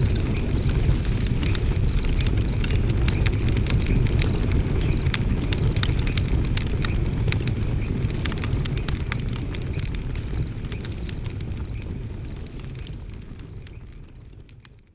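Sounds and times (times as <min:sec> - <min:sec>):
insect chirping trills: 0:00.0 - 0:07.1, 0:07.7 - 0:14.3
low rumble of flame: 0:00.0 - 0:14.9
wood fire crackling and popping: 0:00.0 - 0:14.9.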